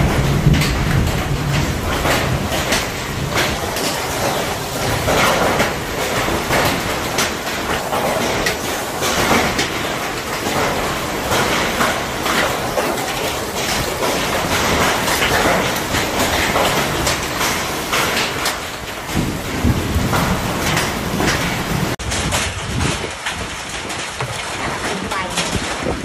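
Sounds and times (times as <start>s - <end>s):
hail and heavy rain clattering: 0.0s - 26.0s.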